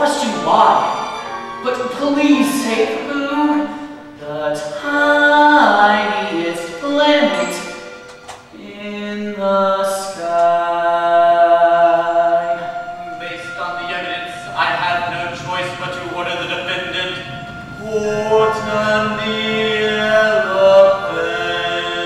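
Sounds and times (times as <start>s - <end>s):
cast singing in chorus: 2.9s - 22.0s.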